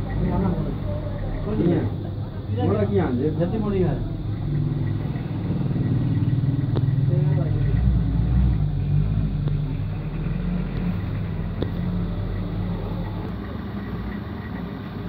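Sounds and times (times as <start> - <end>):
motor humming and rumbling: 0.0 - 15.0.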